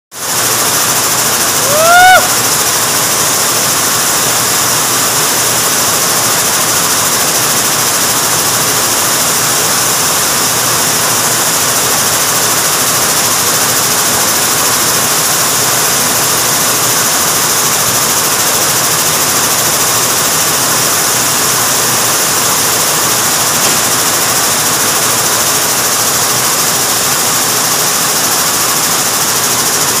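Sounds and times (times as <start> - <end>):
air-jet looms running: 0.2 - 30.0
machine hiss: 0.2 - 30.0.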